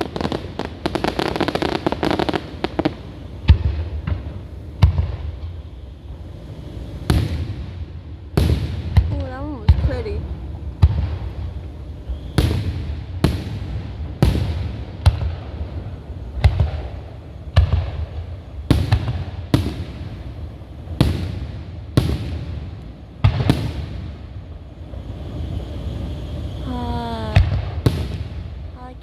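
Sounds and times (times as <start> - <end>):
fireworks bursting with echo: 0.0 - 29.0.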